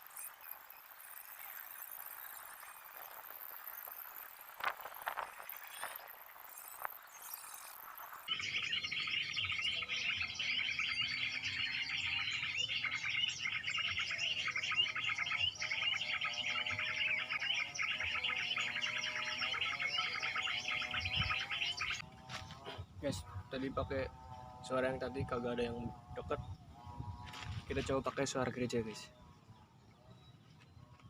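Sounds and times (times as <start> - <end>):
small birds chirping and twittering: 0.0 - 31.0.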